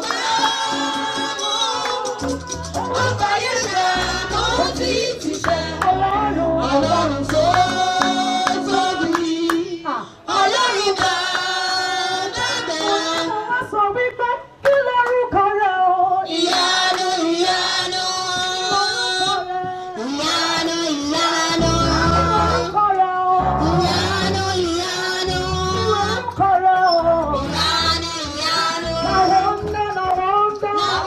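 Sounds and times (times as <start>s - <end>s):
people singing together: 0.0s - 14.1s, 15.4s - 31.0s.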